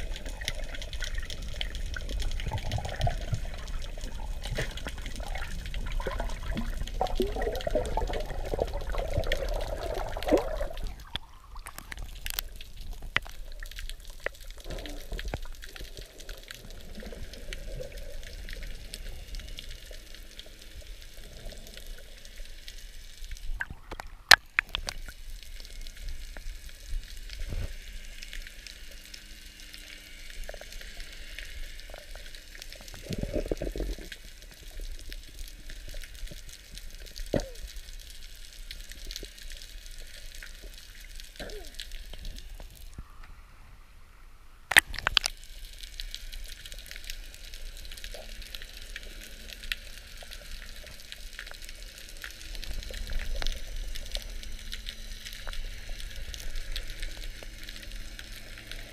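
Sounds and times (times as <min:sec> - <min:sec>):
water rushing and bubbling underwater: 0:00.0 - 0:58.9.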